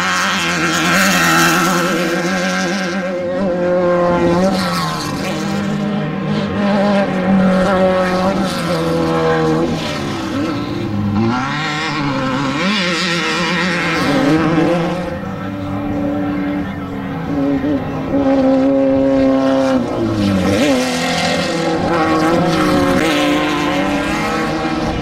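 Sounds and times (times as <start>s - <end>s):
race vehicle engines revving: 0.0s - 25.0s.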